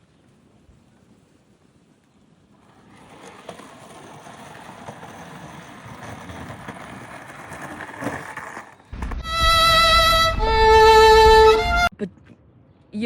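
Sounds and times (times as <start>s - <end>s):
skateboard wheels rolling on concrete: 0.0s - 12.6s.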